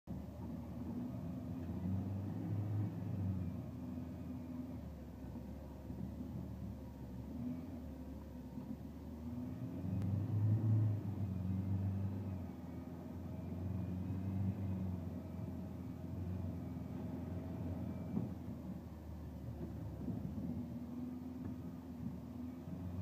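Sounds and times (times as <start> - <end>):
vehicle engine running: 0.1 - 23.0.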